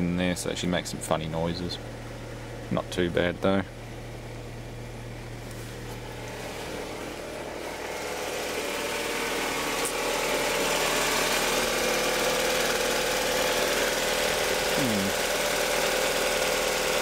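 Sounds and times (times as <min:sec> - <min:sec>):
car engine idling: 0:00.0 - 0:17.0
engine belts whirring: 0:00.0 - 0:17.0.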